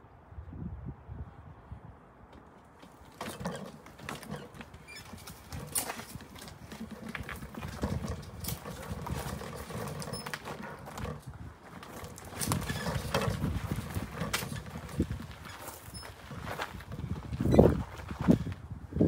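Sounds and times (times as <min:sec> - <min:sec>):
footsteps on path: 0:02.3 - 0:18.8.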